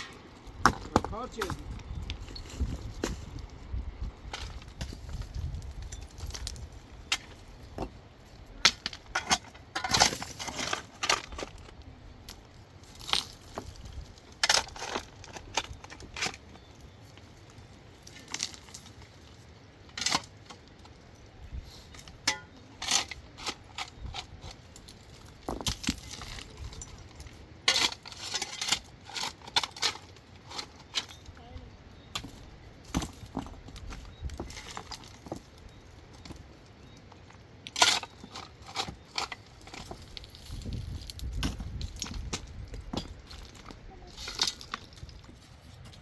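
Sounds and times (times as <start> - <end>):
stones clacking together: 0.0 - 46.0.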